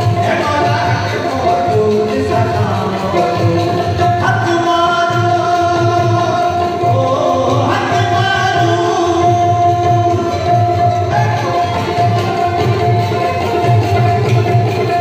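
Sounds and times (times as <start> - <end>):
man singing: 0.0 - 13.7
dholak drum beat: 0.0 - 15.0.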